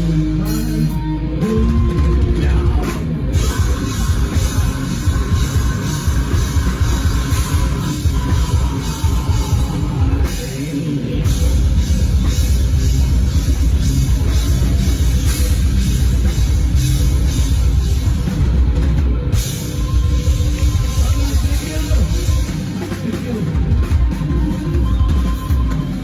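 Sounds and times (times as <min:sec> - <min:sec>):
drum kit: 0:00.0 - 0:26.0
rock band playing live: 0:00.0 - 0:26.0.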